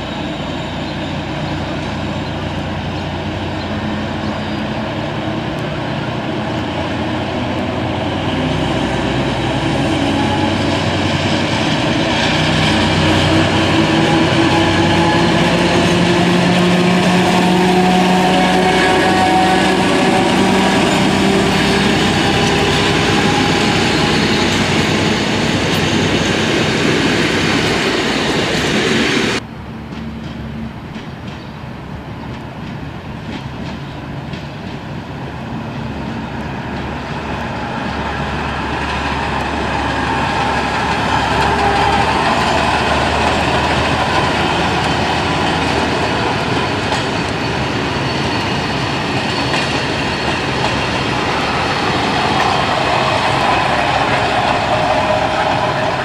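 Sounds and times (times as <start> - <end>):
diesel locomotive engine running: 0.0 - 56.0
train wheels on rails: 0.0 - 56.0.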